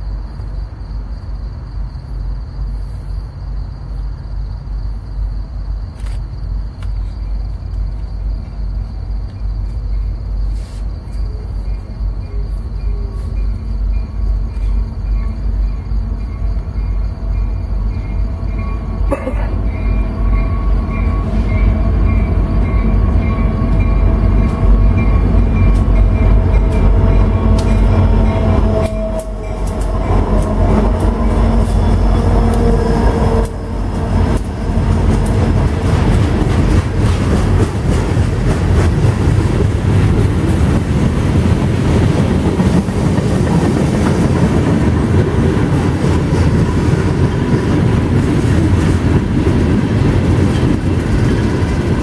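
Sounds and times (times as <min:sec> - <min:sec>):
freight train passing: 0:00.0 - 0:52.0.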